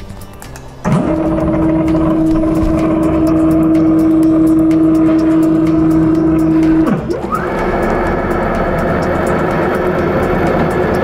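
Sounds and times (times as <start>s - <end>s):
router motor whine: 0.9s - 11.0s.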